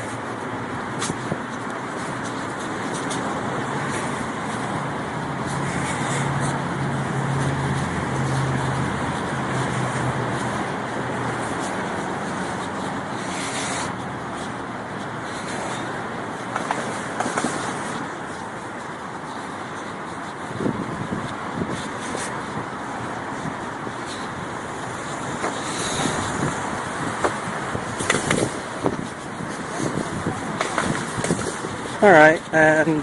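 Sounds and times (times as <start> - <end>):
passing vehicle engine hum: 0.0 - 33.0
street traffic noise: 0.0 - 33.0.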